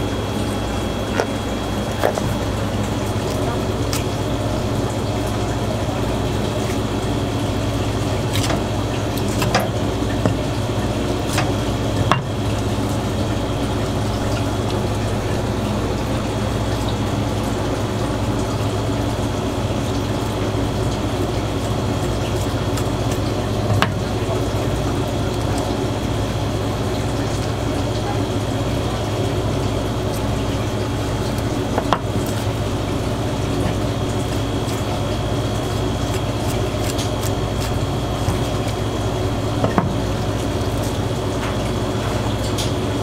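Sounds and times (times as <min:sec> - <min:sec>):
kitchen equipment humming: 0:00.0 - 0:43.0.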